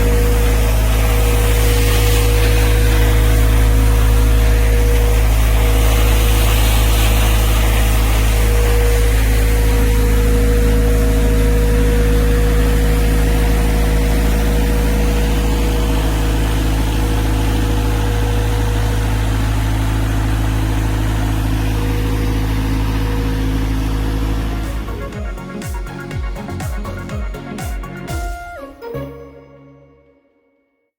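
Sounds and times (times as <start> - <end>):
machine motor humming: 0.0 - 28.5.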